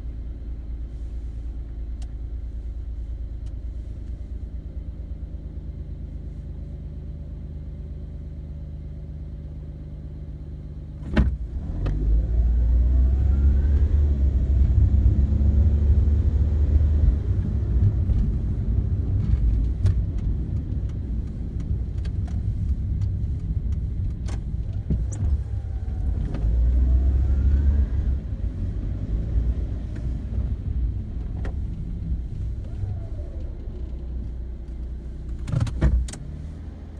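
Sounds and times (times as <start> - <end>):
car engine and tyres rumble: 0.0 - 36.9.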